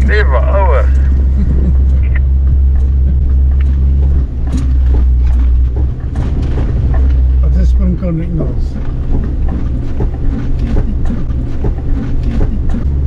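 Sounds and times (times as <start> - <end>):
knocks and rattles in cabin: 0.0 - 13.0
vehicle rumbling on rough track: 0.0 - 13.0.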